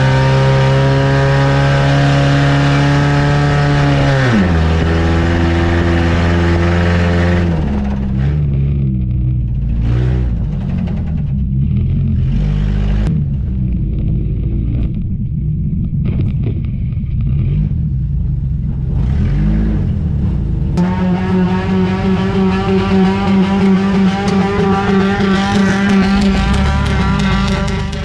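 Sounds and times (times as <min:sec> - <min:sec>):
race car engine rumbling: 0:00.0 - 0:28.0.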